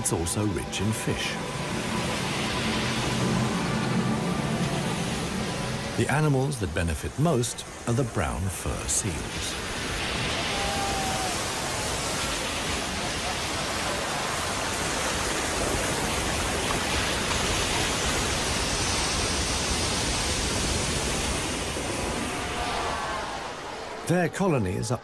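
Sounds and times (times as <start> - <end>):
ocean surf breaking over rocks: 0.0 - 25.0.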